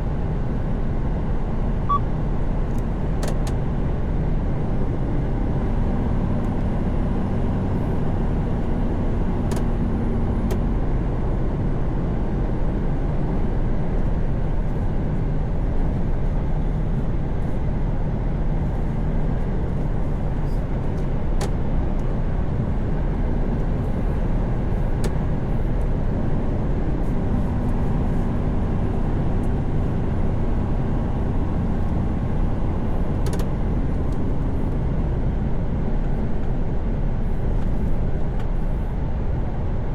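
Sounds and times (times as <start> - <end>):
tyre road noise: 0.0 - 39.9.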